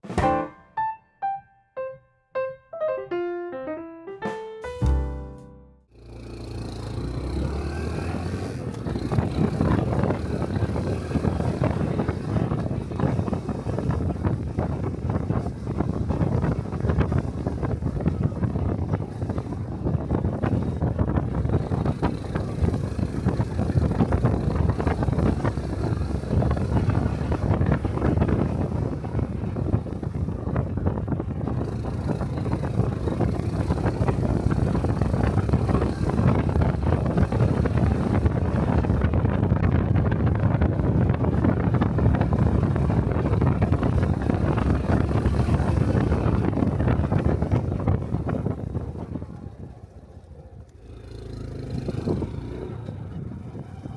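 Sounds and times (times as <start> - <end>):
motorcycle engine running: 5.9 - 53.9
wind buffeting microphone: 6.4 - 53.9.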